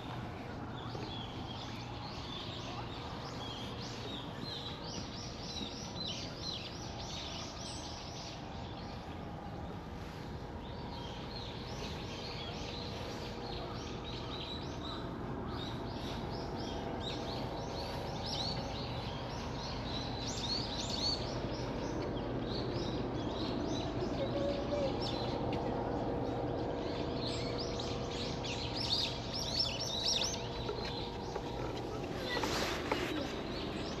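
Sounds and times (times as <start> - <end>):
low background hum: 0.0 - 34.0
small birds chirping: 0.0 - 34.0.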